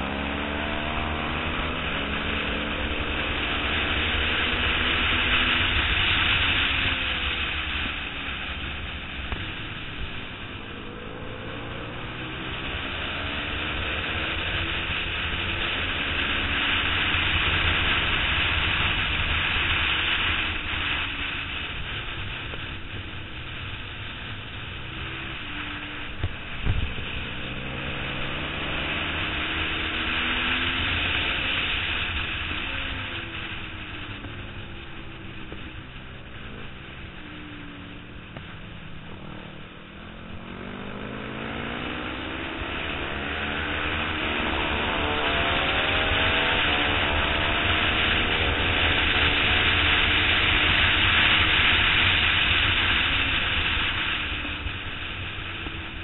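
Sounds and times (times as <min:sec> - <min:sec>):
motorcycle engine revving: 0:00.0 - 0:56.0
wind rushing on microphone: 0:00.0 - 0:56.0.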